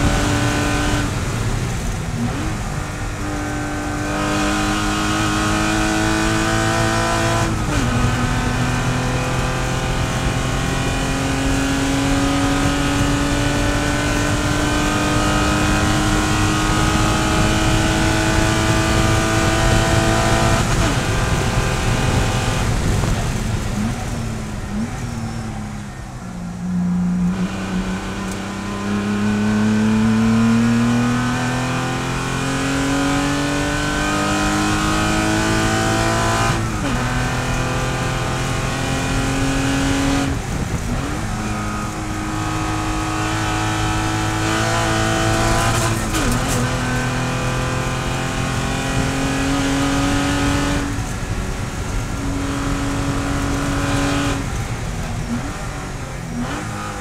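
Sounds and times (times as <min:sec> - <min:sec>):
engine revs jumping through downshifts: 0:00.0 - 0:26.0, 0:27.0 - 0:57.0
race car engine under full throttle: 0:00.0 - 0:57.0.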